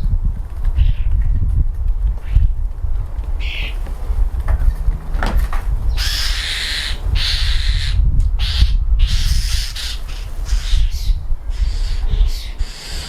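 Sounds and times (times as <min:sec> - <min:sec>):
steady low rumble: 0:00.0 - 0:13.0
birds giving harsh raspy calls: 0:00.7 - 0:01.4, 0:02.2 - 0:13.0.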